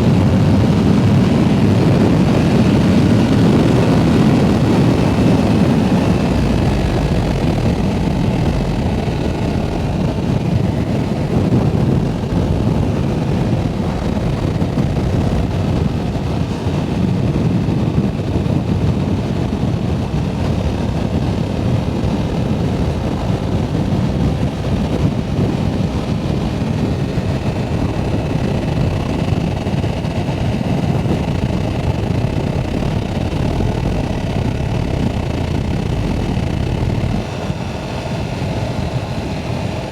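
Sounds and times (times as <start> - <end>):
motorcycle engine running: 0.0 - 39.2
wind on microphone: 0.0 - 39.9.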